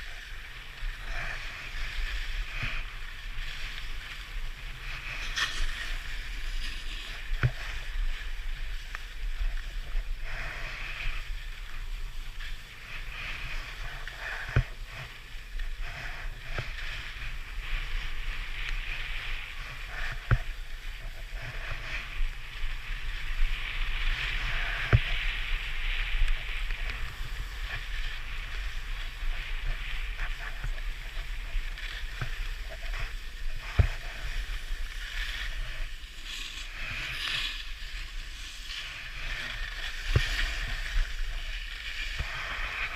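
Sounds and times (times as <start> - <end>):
skis scraping on snow: 0.0 - 42.9.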